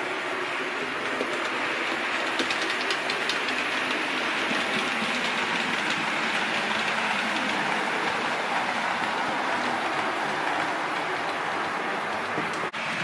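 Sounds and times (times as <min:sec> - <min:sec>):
model train rumbling: 0:00.0 - 0:13.0
wheels clicking over rail joints: 0:00.0 - 0:13.0.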